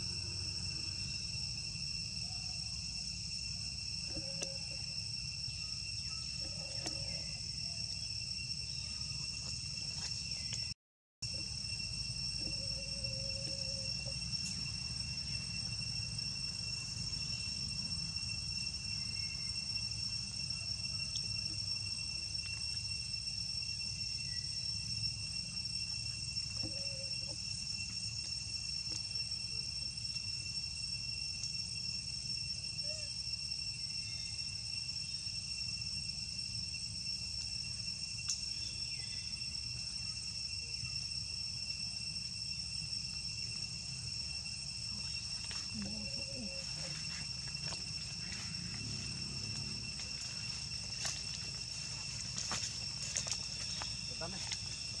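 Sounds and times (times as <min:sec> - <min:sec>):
insect chorus droning: 0:00.0 - 0:55.0.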